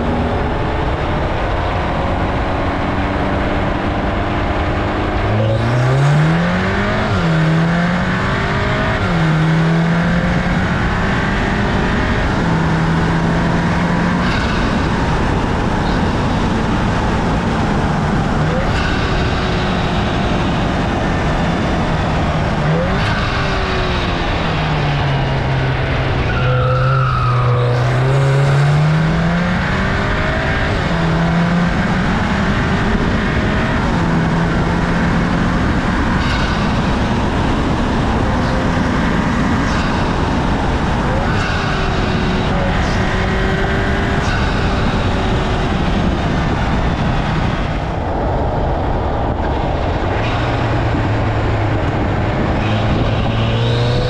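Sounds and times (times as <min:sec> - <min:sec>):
car engine pulling: 0:00.0 - 0:54.0
road noise: 0:00.0 - 0:54.0.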